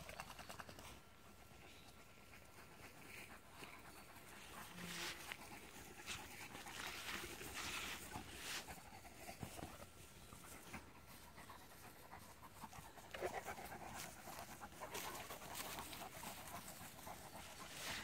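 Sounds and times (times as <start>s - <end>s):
dog panting: 1.2s - 18.0s.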